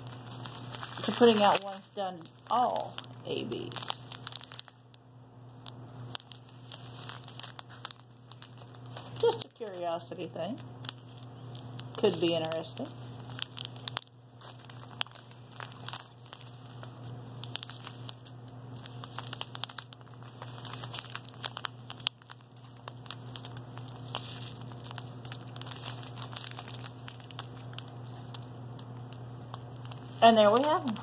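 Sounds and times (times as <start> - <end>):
plastic bags crinkling: 0.0 - 31.0
steady low hum: 0.0 - 31.0.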